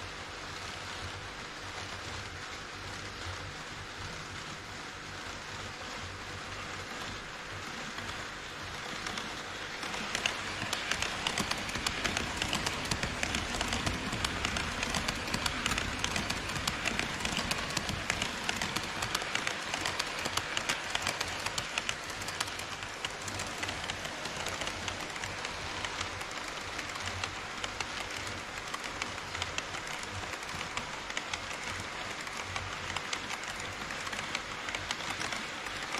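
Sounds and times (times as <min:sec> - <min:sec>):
model train wheels rumbling: 0:00.0 - 0:35.9
rapid rail clicking: 0:00.0 - 0:35.9.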